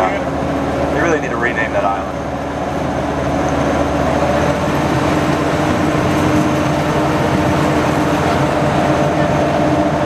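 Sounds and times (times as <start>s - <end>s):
amphibious vehicle engine droning: 0.0s - 10.0s.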